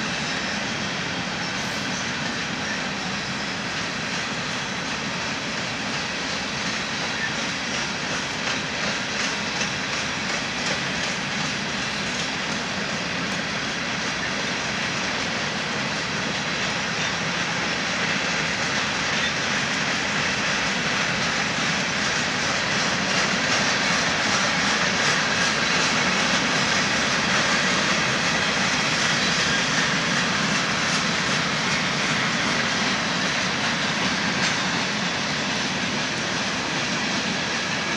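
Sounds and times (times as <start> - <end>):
freight train rolling past: 0.0 - 37.9.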